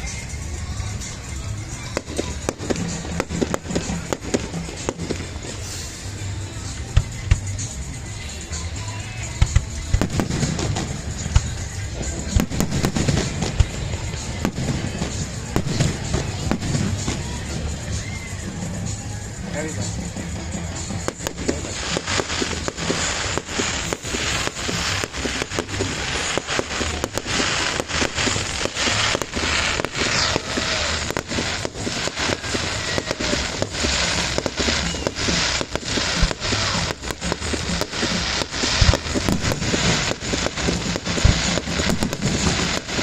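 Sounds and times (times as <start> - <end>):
fireworks banging and crackling: 0.0 - 43.0.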